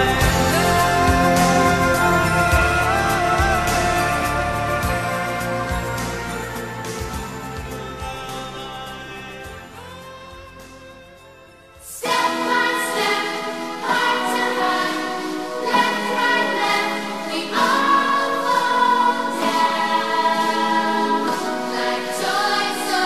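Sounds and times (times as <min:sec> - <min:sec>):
choral singing: 0:00.0 - 0:10.7, 0:11.8 - 0:23.0
slow ballad with held chords: 0:00.0 - 0:23.0.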